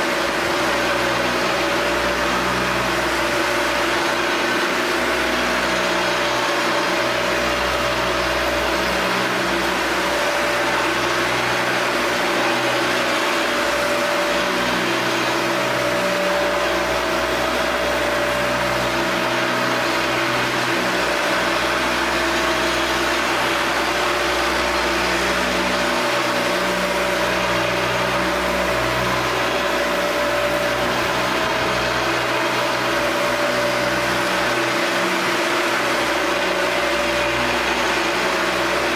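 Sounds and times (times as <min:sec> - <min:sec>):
floor sander humming: 0:00.0 - 0:38.9
shop vacuum running: 0:00.0 - 0:38.9.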